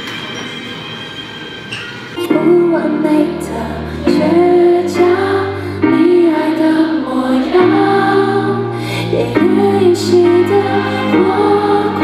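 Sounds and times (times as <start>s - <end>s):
backing music: 0.0s - 12.0s
woman singing a slow ballad: 2.2s - 12.0s.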